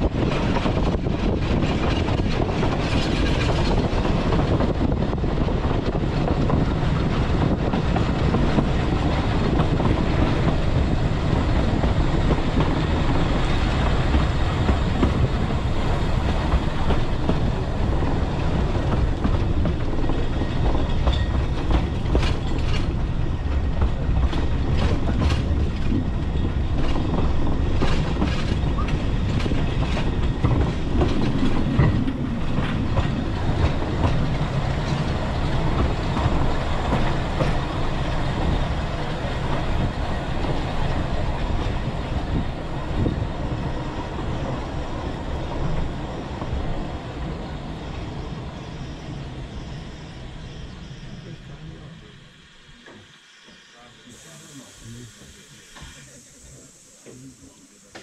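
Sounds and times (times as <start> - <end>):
wheels clicking on rails: 0.0 - 48.3
train rumbling: 0.0 - 58.0.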